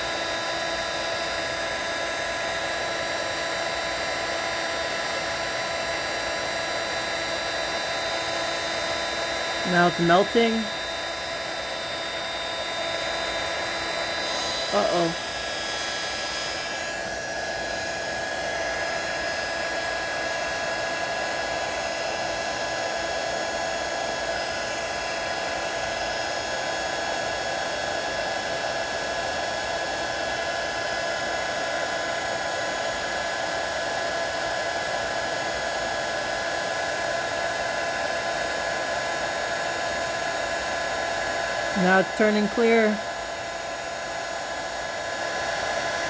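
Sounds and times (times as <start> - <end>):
heat gun blowing air: 0.0 - 46.0.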